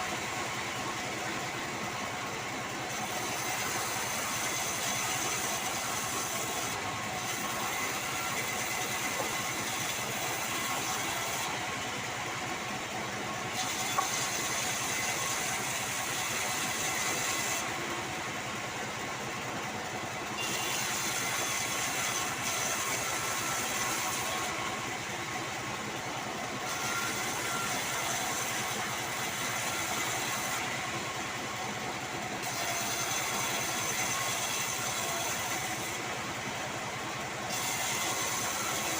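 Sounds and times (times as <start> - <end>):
band saw cutting logs: 0.0 - 38.9.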